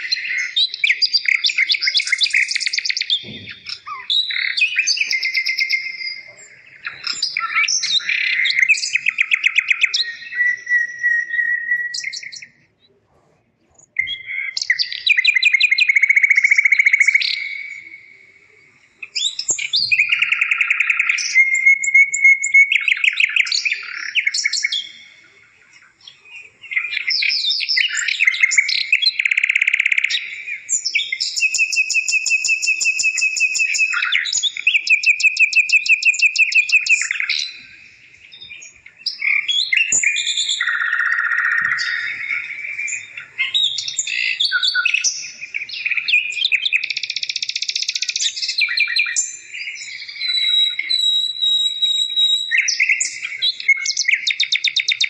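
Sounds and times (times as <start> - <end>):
songbird singing trills and whistles: 0.0 - 55.0.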